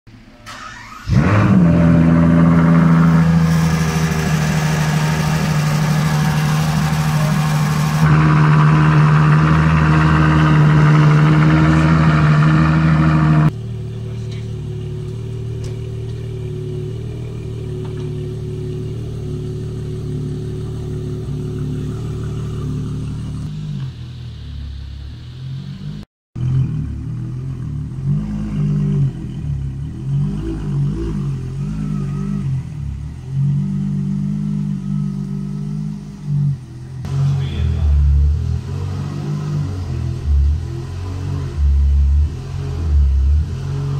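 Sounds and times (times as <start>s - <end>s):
car engine starting and idling: 0.1s - 43.9s.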